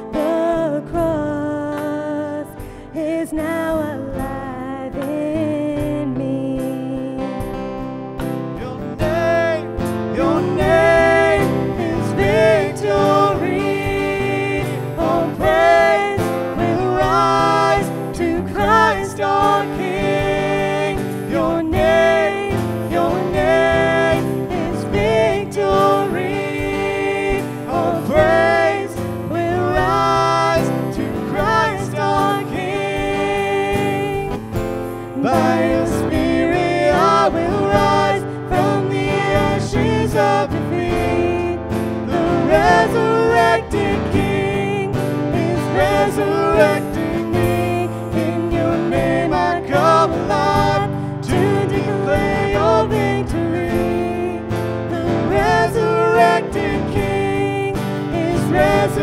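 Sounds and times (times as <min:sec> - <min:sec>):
acoustic guitar: 0:00.0 - 0:59.0
keyboard: 0:00.0 - 0:59.0
man singing: 0:08.5 - 0:34.5, 0:35.2 - 0:59.0.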